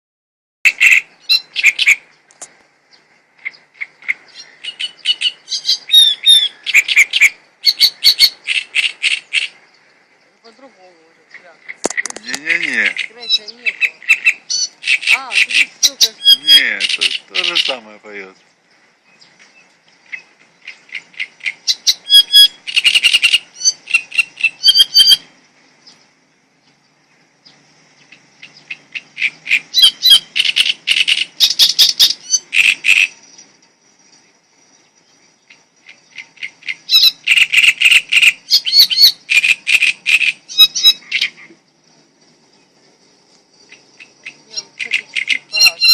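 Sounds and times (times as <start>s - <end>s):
songbird chirping and trilling: 0.7s - 45.9s.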